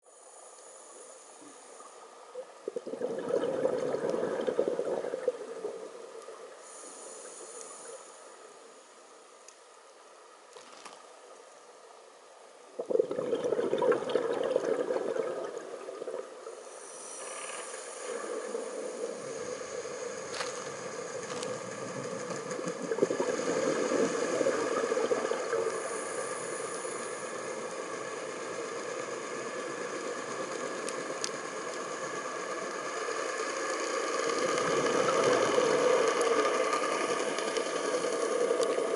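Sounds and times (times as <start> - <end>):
underwater watery rush: 2.6 - 7.8, 12.8 - 38.9.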